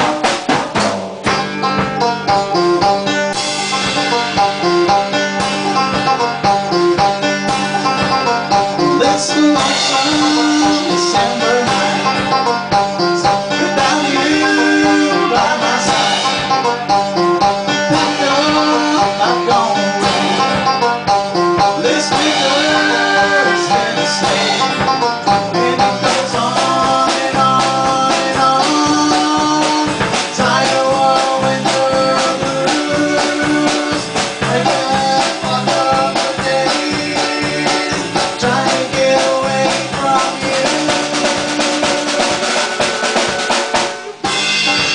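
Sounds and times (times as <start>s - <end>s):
country band playing guitars: 0.0s - 44.9s
person singing: 4.0s - 43.4s.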